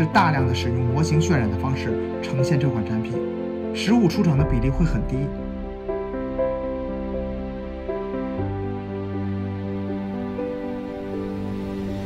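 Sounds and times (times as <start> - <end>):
slow background music with bass: 0.0 - 12.0.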